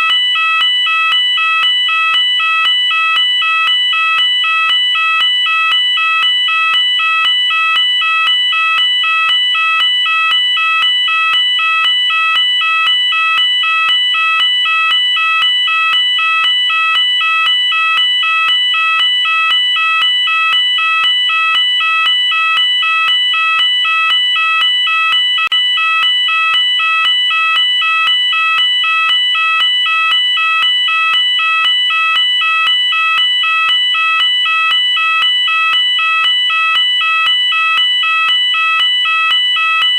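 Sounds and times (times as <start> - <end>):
fire alarm two-tone warble: 0.0 - 39.9.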